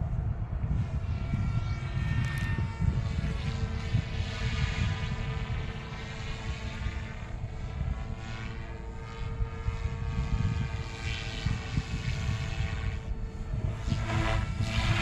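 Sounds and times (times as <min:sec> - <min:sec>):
rc helicopter rotor whine: 0:00.0 - 0:15.0
wind buffeting microphone: 0:00.0 - 0:15.0.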